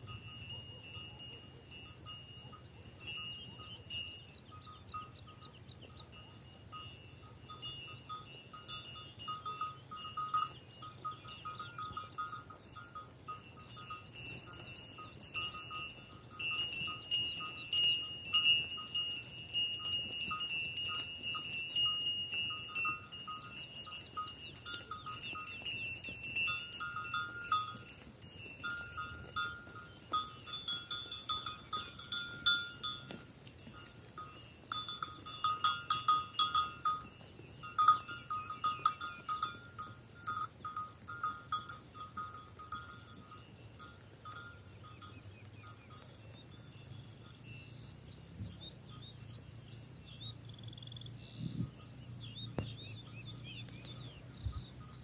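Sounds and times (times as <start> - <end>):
sheep bells clanking: 0.0 - 55.0.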